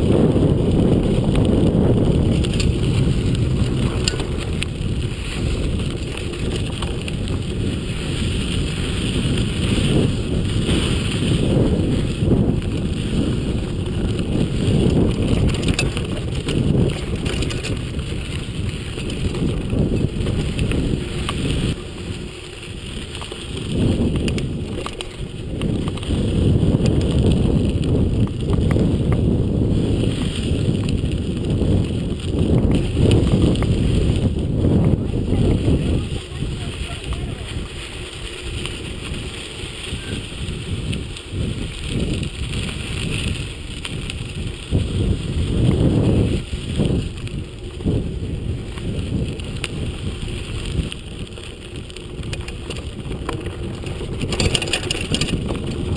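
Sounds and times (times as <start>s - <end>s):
bike rattling over rocks: 0.0s - 55.9s
bike tyres rumbling on gravel: 0.0s - 55.9s
wind on microphone: 0.0s - 55.9s.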